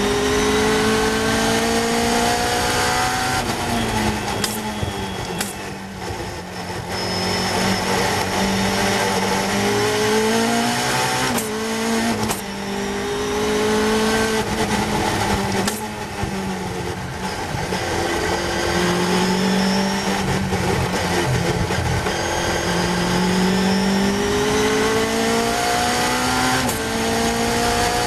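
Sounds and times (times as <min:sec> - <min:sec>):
race car engine revving: 0:00.0 - 0:04.8, 0:05.4 - 0:28.0
wind and road noise: 0:00.0 - 0:28.0.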